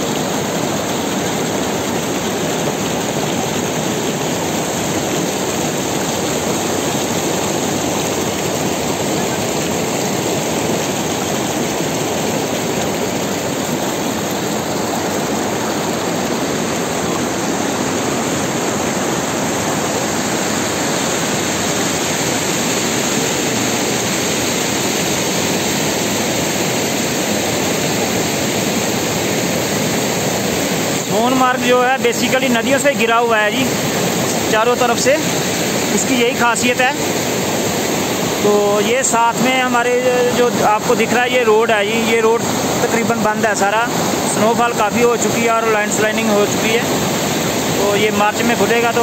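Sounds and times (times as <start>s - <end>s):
mountain stream rushing: 0.0s - 49.0s.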